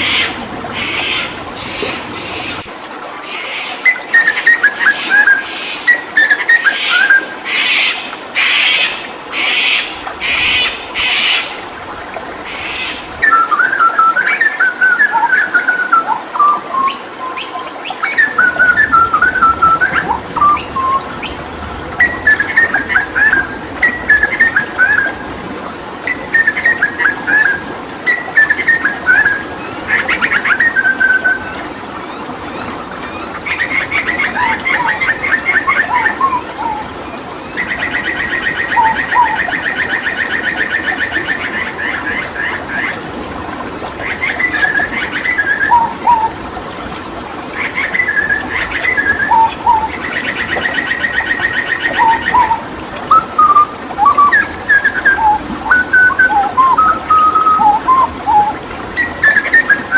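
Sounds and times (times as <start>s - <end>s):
running water: 0.0s - 59.9s
bird calling and singing: 3.3s - 11.5s, 12.5s - 21.4s, 22.0s - 25.2s, 26.1s - 36.9s, 37.5s - 43.0s, 44.0s - 46.4s, 47.6s - 59.9s.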